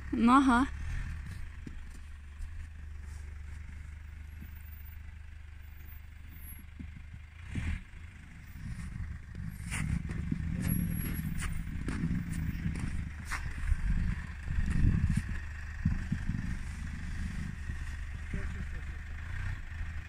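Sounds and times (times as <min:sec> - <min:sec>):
car engine humming: 0:00.0 - 0:20.0.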